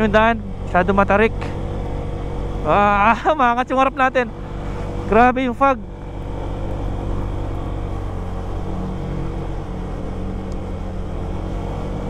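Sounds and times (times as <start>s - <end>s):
motor scooter engine climbing: 0.0s - 12.0s.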